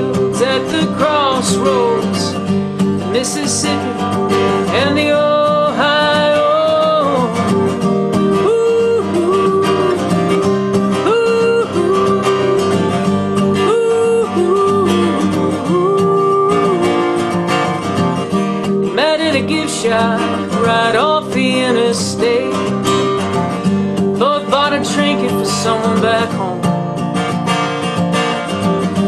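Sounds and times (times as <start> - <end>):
country acoustic guitar music: 0.0 - 29.0.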